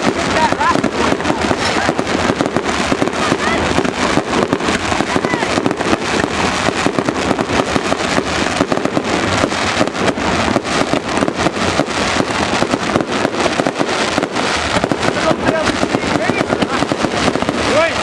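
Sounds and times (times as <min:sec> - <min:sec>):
exhausts crackling and popping: 0:00.0 - 0:18.0.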